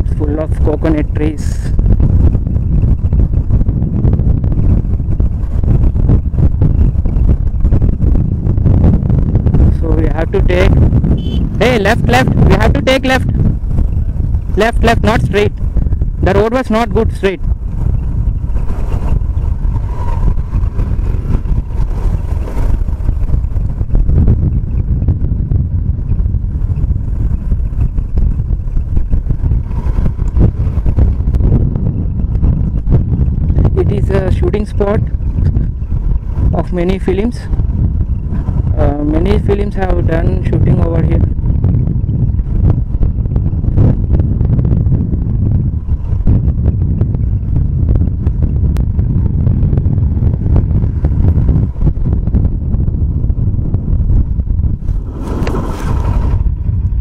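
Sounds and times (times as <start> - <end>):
motorbike running: 0.0 - 57.0
wind buffeting microphone: 0.0 - 57.0.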